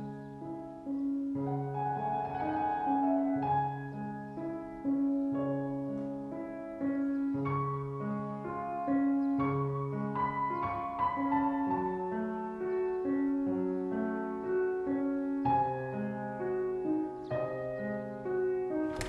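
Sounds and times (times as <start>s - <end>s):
background piano music: 0.0s - 19.0s.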